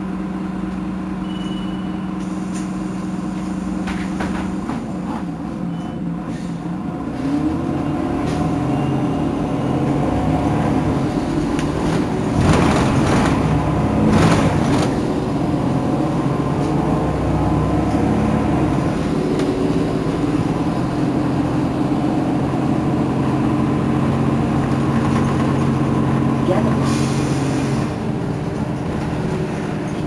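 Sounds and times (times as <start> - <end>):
bus diesel engine idling: 0.0 - 30.0.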